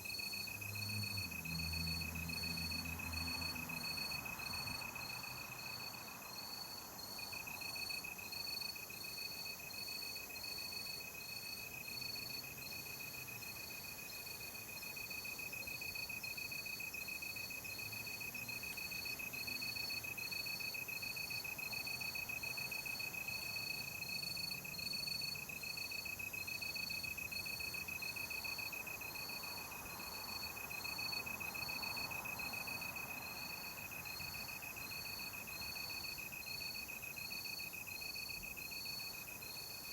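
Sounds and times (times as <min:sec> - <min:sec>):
insect chirping rhythmically: 0:03.8 - 0:39.9.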